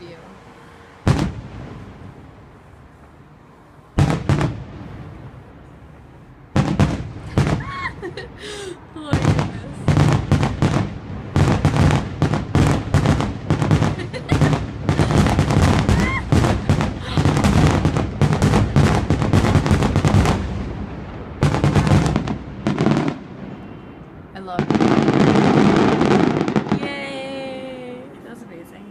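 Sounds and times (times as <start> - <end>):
fireworks bangs and crackling: 1.0 - 2.5, 4.0 - 27.7.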